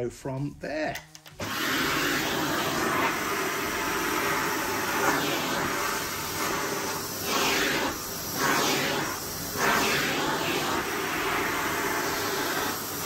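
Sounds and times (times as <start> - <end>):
vacuum cleaner running: 1.3 - 13.0.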